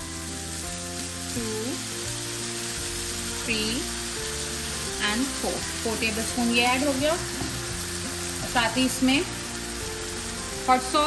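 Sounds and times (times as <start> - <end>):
background music: 0.0 - 11.0
food sizzling in a pan: 0.0 - 11.0.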